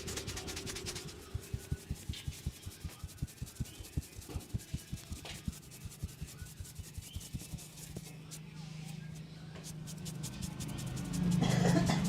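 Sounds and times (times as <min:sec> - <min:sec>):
hands rubbing hair and scalp: 0:00.0 - 0:12.0.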